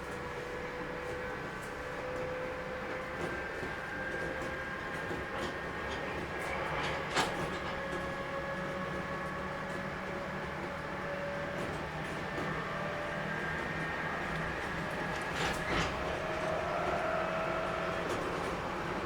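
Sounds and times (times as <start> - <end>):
train rumble and hum: 0.0 - 19.0
wheels clicking over rail joints: 2.9 - 19.0.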